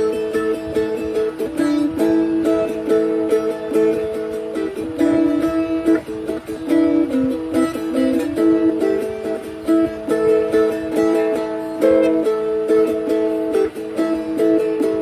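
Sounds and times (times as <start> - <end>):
plucked string instrument melody: 0.0 - 15.0.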